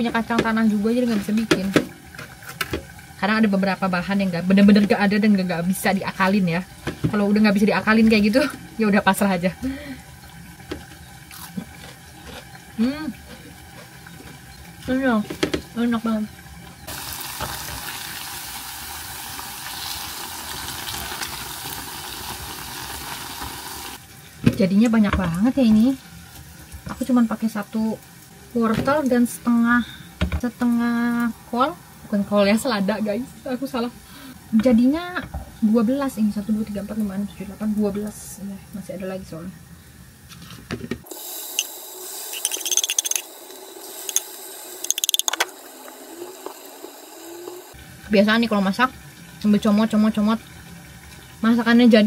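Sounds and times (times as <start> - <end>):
hot oil sizzling: 0.0 - 40.2, 41.0 - 52.0.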